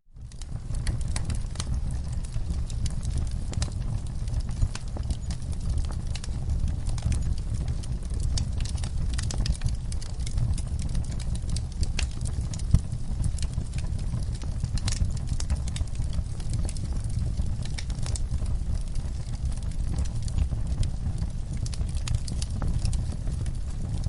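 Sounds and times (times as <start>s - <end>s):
fire crackling and popping: 0.1s - 24.0s.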